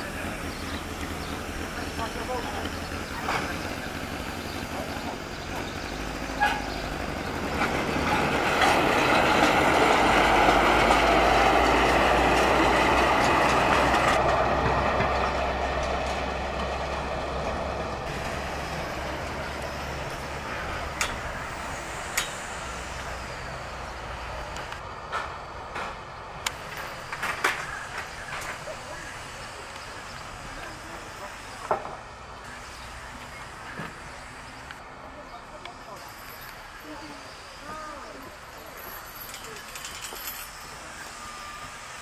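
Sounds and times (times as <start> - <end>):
wheels on rails: 0.0 - 34.8, 35.4 - 42.0
rail trolley engine: 0.0 - 42.0.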